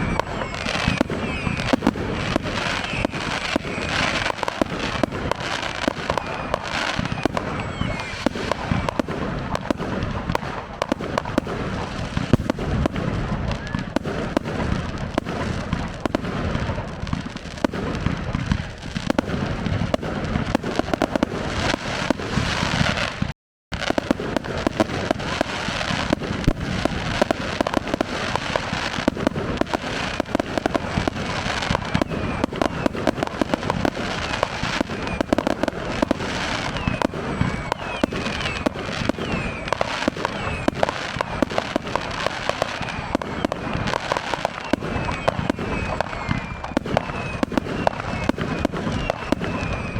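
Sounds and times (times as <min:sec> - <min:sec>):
fireworks cracking and banging: 0:00.0 - 0:49.9.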